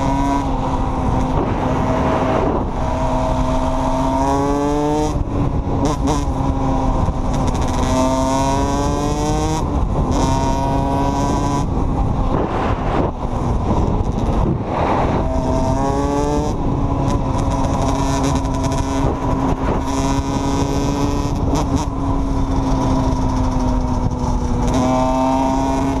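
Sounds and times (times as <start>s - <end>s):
dirt bike engine revving: 0.0s - 26.0s
wind on microphone: 0.0s - 26.0s.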